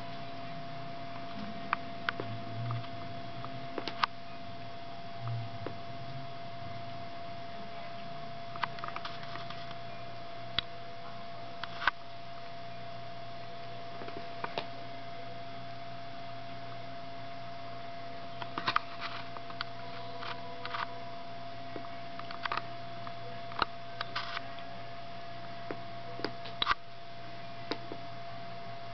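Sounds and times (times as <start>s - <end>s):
low hum: 0.0s - 28.9s.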